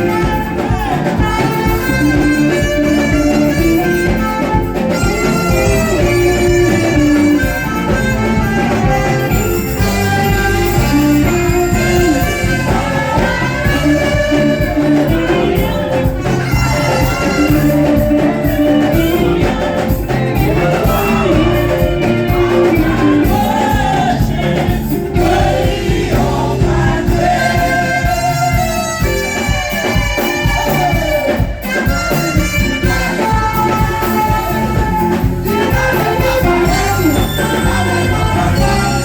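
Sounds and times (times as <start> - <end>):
live gospel band music: 0.0 - 39.0
people singing: 0.0 - 39.0.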